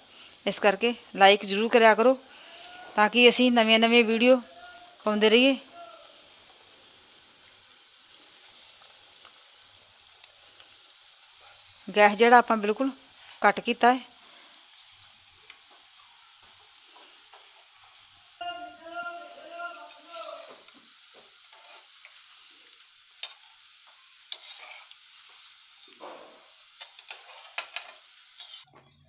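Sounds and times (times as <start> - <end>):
deep-frying sizzle: 0.0 - 29.0.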